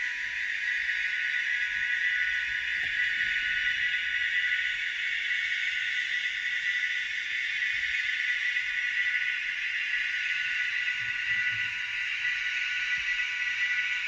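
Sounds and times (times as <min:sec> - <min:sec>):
model locomotive hissing whirr: 0:00.0 - 0:14.0.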